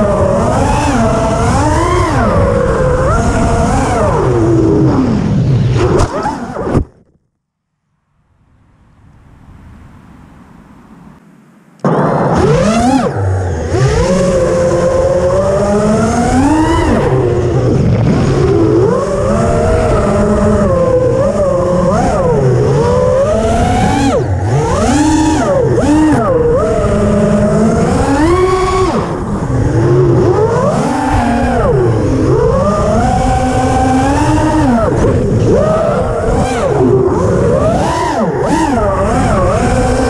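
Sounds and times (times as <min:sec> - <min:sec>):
drone motors whining: 0:00.0 - 0:07.0, 0:11.8 - 0:40.0.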